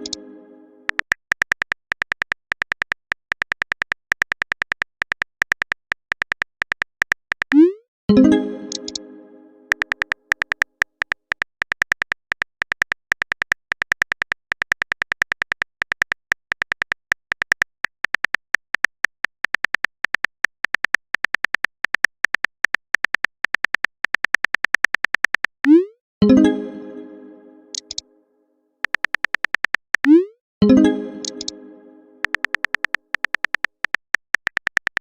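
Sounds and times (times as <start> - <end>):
electronic keyboard tap clicks: 0.0 - 0.2, 0.9 - 9.0, 9.7 - 26.4, 27.7 - 28.0, 28.8 - 31.6, 32.2 - 35.0.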